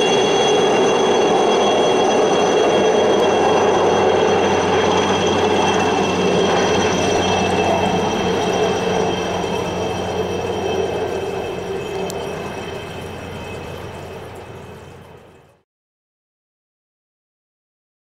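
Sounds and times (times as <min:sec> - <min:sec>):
helicopter rumble with engine whine: 0:00.0 - 0:15.6.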